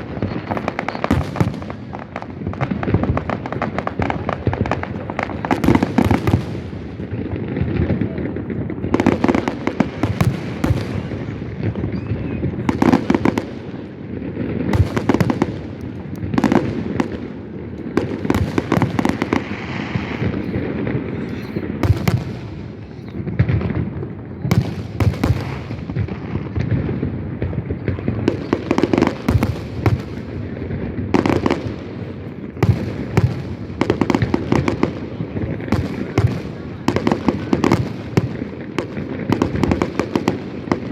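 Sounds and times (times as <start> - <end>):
fireworks bangs: 0.0 - 40.9
fireworks crackle: 0.0 - 40.9.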